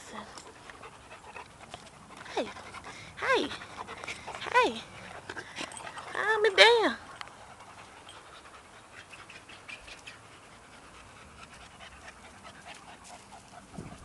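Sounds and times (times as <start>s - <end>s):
puppy panting faintly: 0.0s - 14.0s.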